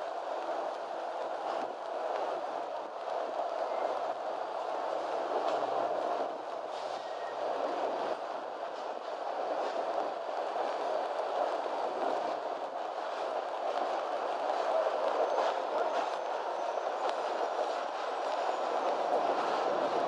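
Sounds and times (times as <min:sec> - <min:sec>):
train coaches rumbling: 0:00.0 - 0:20.0
train wheels clicking: 0:00.1 - 0:20.0.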